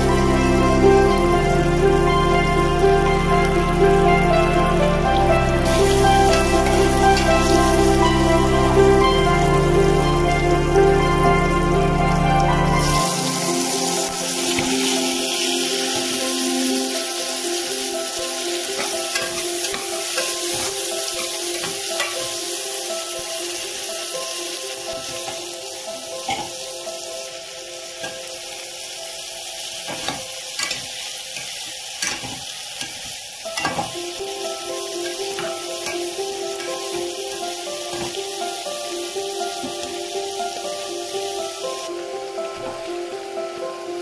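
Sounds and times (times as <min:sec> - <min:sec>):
background music: 0:00.0 - 0:31.2, 0:33.4 - 0:44.0
vegetables sizzling in oil: 0:00.0 - 0:44.0.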